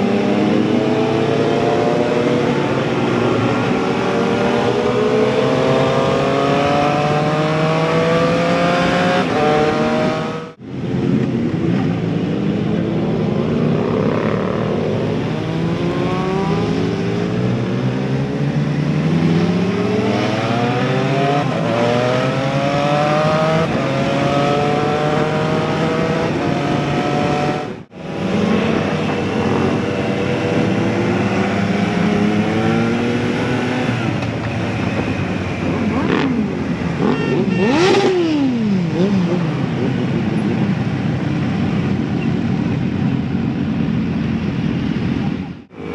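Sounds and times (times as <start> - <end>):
motorcycle engine accelerating: 0.0 - 12.9, 13.6 - 41.8.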